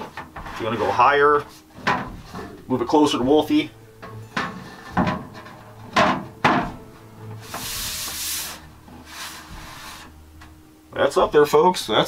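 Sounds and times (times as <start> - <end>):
metal plate rubbing: 0.0 - 10.2.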